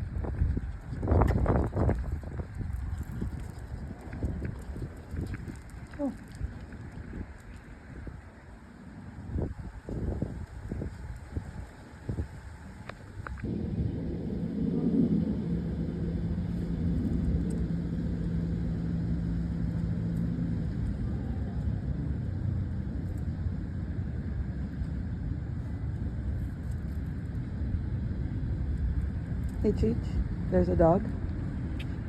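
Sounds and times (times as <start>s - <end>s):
engine humming: 0.0s - 32.0s
low rumble of road vehicles: 0.0s - 32.0s.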